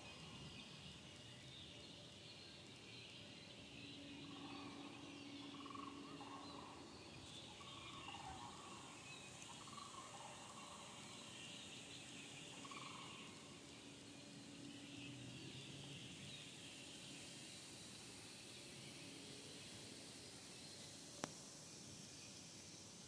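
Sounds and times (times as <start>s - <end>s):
insect chirring: 3.5s - 23.0s.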